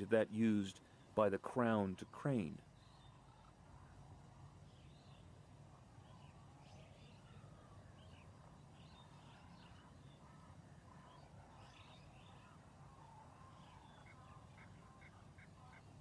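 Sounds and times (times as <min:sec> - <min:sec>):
distant bird chirps: 0:00.0 - 0:16.0.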